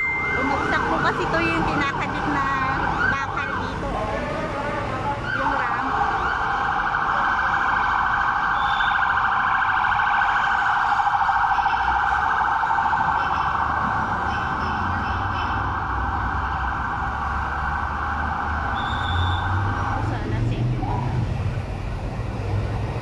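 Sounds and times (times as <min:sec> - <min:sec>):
siren warbling: 0:00.0 - 0:03.9, 0:05.1 - 0:21.2
low traffic rumble: 0:00.0 - 0:23.0.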